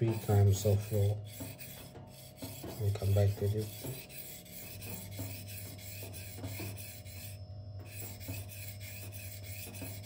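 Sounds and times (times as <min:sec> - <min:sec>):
knife scraping on whetstone: 0:00.0 - 0:10.0.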